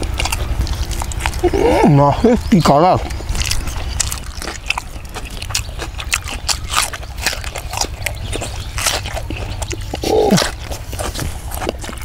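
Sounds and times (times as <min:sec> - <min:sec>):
man chewing with wet smacks: 0:00.0 - 0:12.0.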